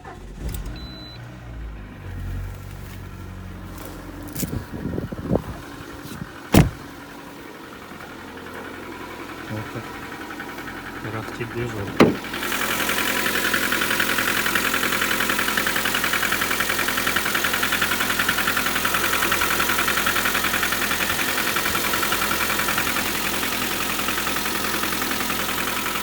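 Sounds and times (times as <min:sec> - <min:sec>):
petrol engine idling with clatter: 0:00.0 - 0:26.0.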